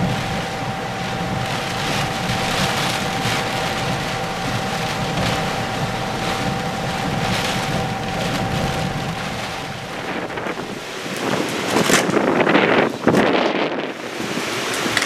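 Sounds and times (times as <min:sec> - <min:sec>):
low rumble: 0:00.0 - 0:12.6
faint steady hum: 0:00.0 - 0:14.0
driving rain: 0:00.0 - 0:15.0
hurricane wind: 0:00.0 - 0:15.0.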